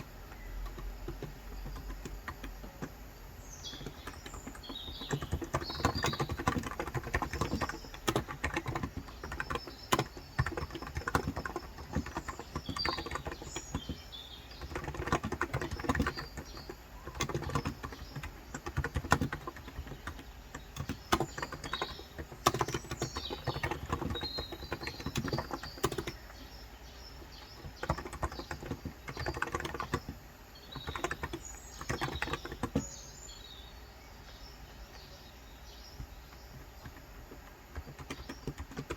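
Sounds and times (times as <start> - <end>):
fast keyboard typing: 0.0 - 26.4, 27.1 - 33.1, 36.0 - 38.9
birds chirping: 0.0 - 38.9.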